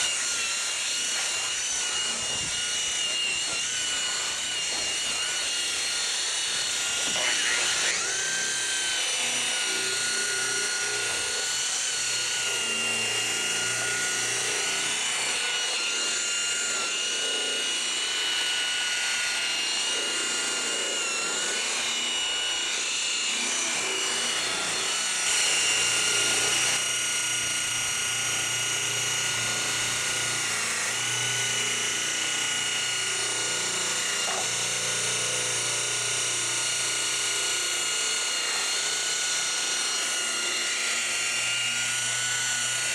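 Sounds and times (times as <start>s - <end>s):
rotary polisher whine: 0.0s - 42.9s.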